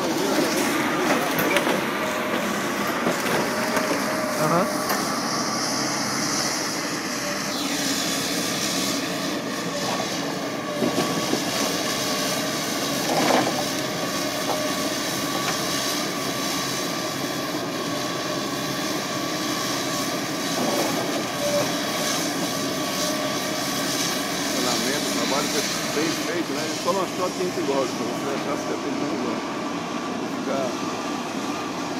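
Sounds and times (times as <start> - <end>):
excavator diesel engine running: 0.0 - 31.9
hydraulic whine: 0.0 - 31.9.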